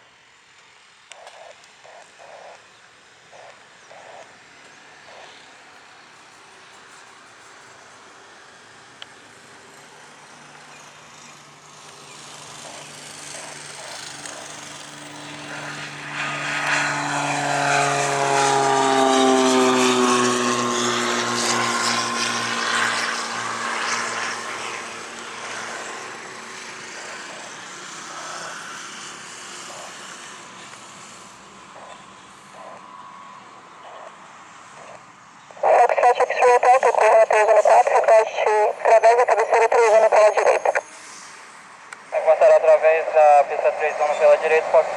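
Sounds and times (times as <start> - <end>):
aircraft engine passing by: 0.0 - 44.9.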